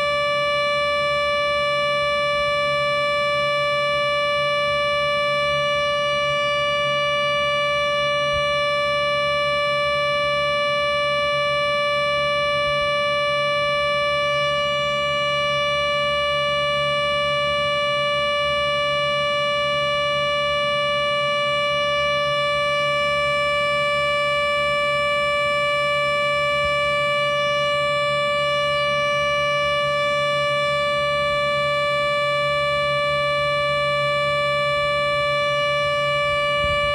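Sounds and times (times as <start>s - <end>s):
steady siren tone: 0.0s - 36.9s.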